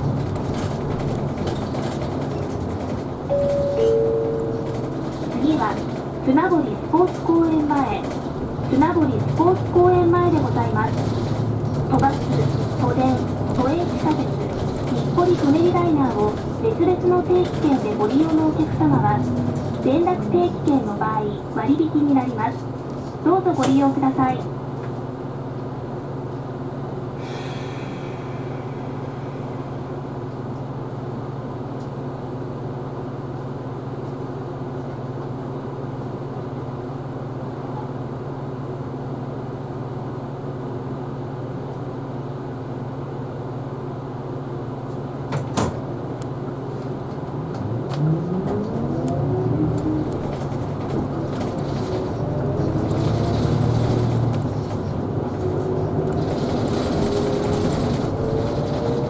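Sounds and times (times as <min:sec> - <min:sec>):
bus accelerating whine: 0:00.0 - 0:59.0
bus engine humming: 0:00.0 - 0:59.0.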